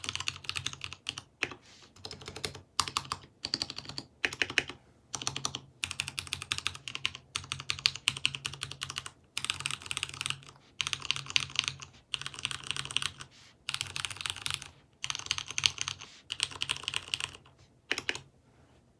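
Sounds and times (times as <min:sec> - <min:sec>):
mechanical keyboard typing: 0:00.0 - 0:18.3.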